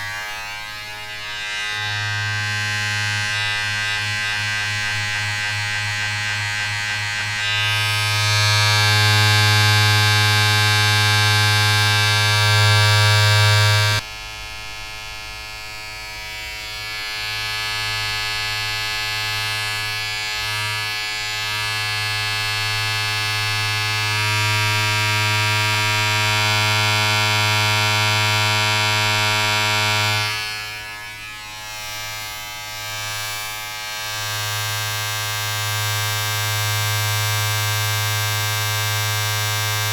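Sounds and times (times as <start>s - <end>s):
electric motor buzz: 0.0s - 14.1s, 15.2s - 39.9s.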